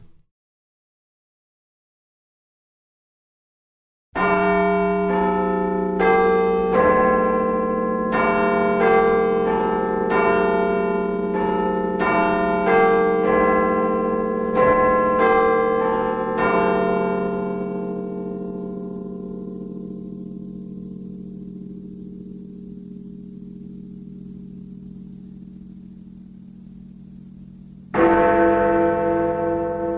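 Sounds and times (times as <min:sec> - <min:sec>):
steady held low note: 0:04.3 - 0:29.9.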